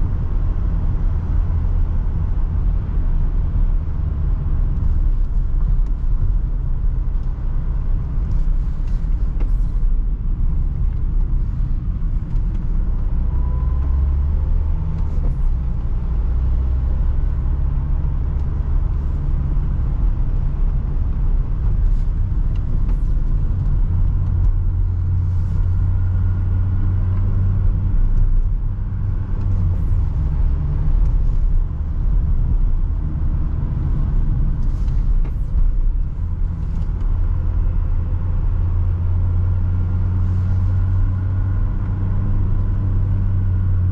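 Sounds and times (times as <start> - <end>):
van engine and road rumble: 0.0 - 43.9.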